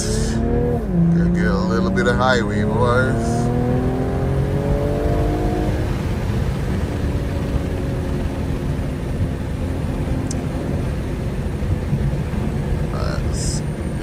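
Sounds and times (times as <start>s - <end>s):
faint engine hum: 0.0s - 14.0s
road and tyre rumble: 0.0s - 14.0s.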